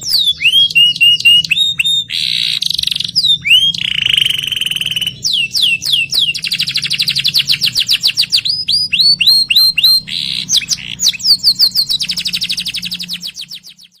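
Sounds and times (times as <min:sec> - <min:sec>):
canary singing trills: 0:00.0 - 0:14.0.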